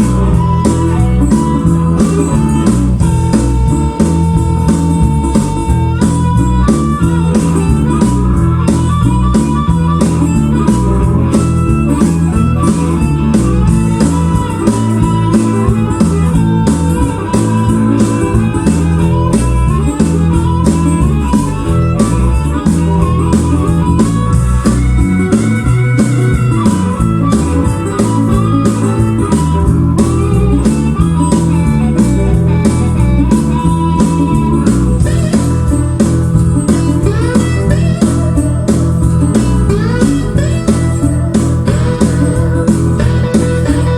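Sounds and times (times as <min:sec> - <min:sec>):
blues guitar over a beat: 0:00.0 - 0:43.9.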